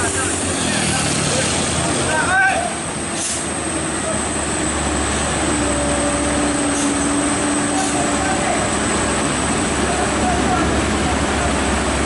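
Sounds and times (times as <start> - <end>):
heavy vehicle engine rumble: 0.0 - 12.0.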